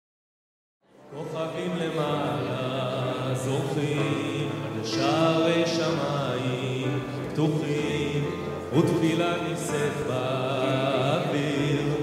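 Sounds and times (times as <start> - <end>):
man singing into a microphone: 1.1 - 12.0.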